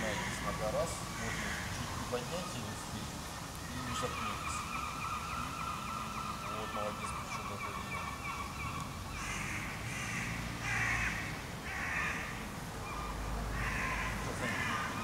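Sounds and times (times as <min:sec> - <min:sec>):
harsh bird calls: 0:00.0 - 0:15.0.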